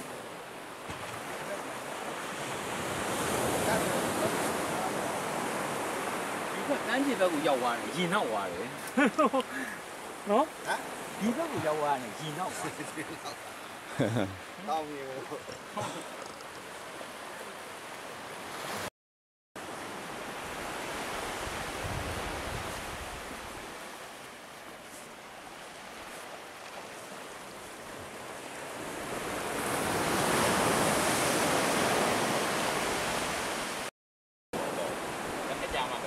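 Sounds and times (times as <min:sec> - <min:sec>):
small waves washing onto beach: 0:00.0 - 0:18.9, 0:19.6 - 0:33.9, 0:34.6 - 0:36.0.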